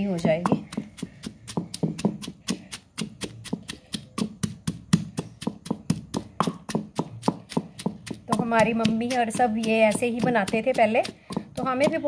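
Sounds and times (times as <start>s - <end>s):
pestle pounding in stone mortar: 0.0s - 12.0s.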